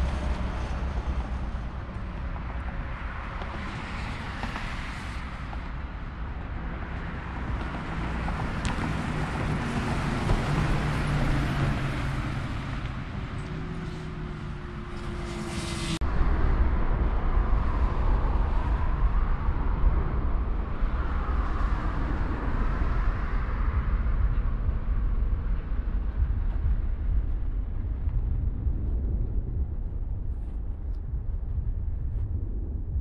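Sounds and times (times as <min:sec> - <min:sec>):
jet airliner engines roaring: 0:00.0 - 0:30.6.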